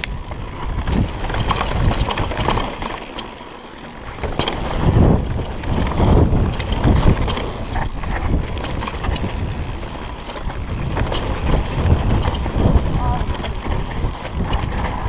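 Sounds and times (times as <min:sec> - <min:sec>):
wind rushing over microphone: 0:00.0 - 0:03.0, 0:04.0 - 0:15.0
bike knocking over bumps: 0:00.0 - 0:15.0
bike tyres on loose dirt: 0:00.0 - 0:15.0.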